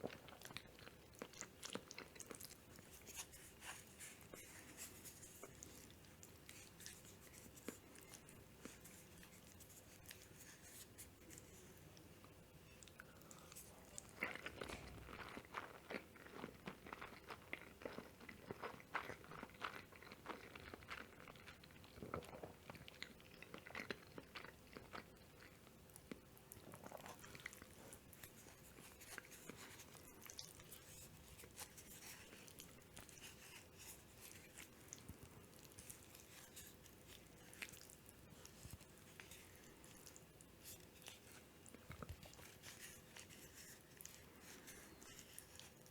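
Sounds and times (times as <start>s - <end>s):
close-miked chewing: 0.0s - 45.9s.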